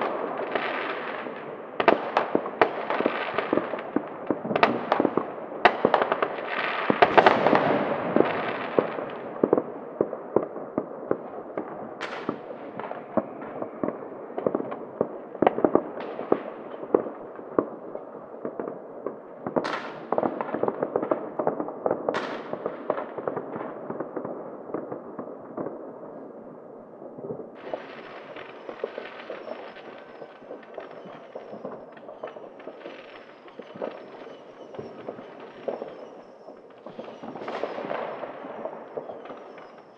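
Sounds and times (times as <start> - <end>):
fireworks crackling and banging: 0.0 - 39.9.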